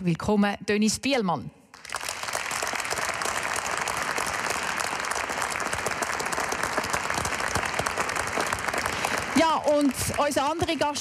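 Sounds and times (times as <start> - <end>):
audience applause: 1.8 - 11.0.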